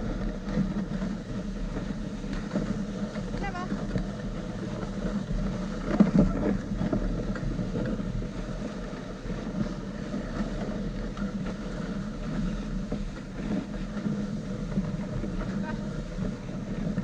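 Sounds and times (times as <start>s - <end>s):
sled scraping over snow: 0.0s - 17.0s.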